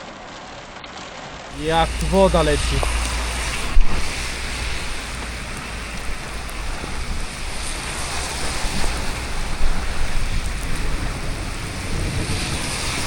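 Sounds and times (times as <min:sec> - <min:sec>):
heavy rain falling: 0:01.4 - 0:13.0
rainwater running off: 0:01.5 - 0:13.0.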